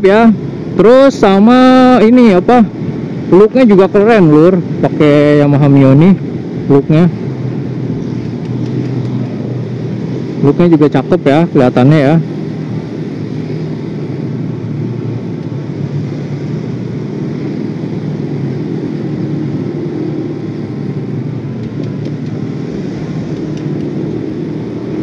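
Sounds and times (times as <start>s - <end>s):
road noise: 0.0s - 25.0s
motorcycle engine cruising: 4.1s - 25.0s.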